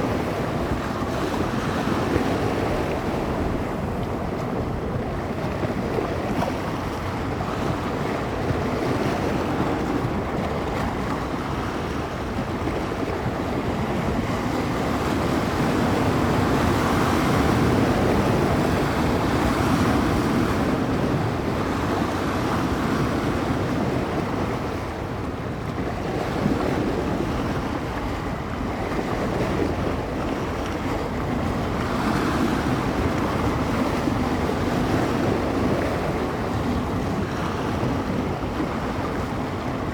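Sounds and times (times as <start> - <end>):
waves breaking on shore: 0.0 - 39.9
wind buffeting microphone: 0.0 - 39.9.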